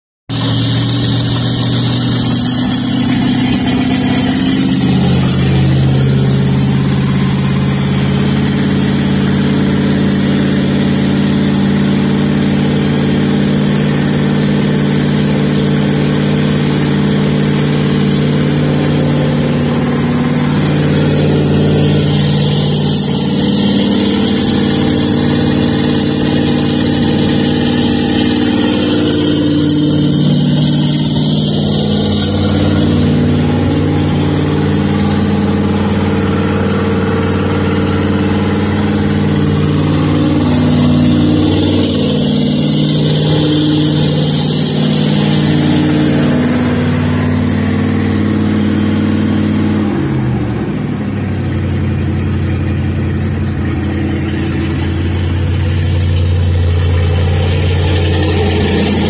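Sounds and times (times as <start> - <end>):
boat engine idling: 0.3 - 59.0.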